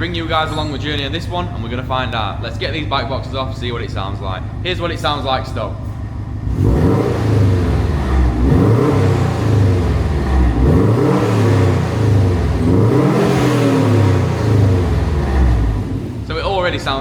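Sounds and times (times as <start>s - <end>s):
car engine revving: 2.5s - 17.0s.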